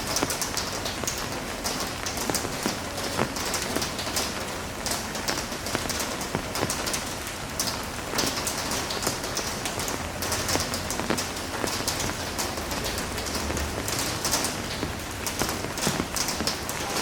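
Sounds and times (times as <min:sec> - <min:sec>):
heavy rain falling: 0:00.0 - 0:17.0
raindrops hitting a surface: 0:00.0 - 0:17.0.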